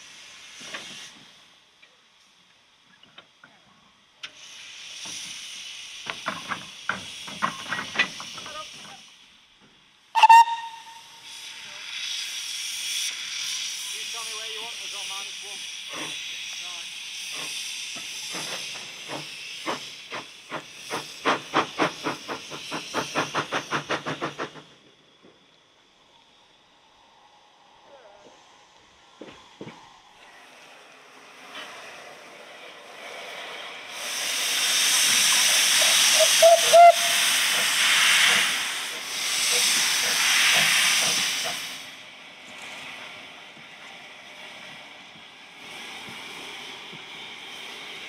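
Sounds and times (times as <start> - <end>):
steam hissing: 0.0 - 48.0
steam locomotive exhaust chuffs: 0.0 - 48.0.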